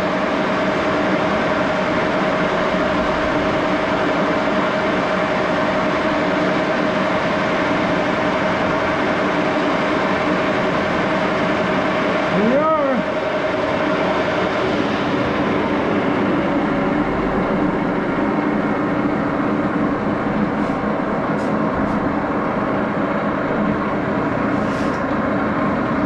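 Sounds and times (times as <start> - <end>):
lathe running with steady hum: 0.0 - 26.0.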